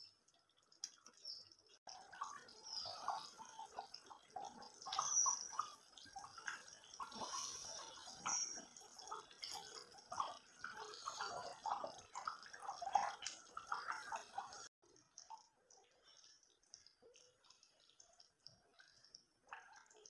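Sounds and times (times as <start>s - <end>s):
curry bubbling and popping: 0.0s - 20.0s.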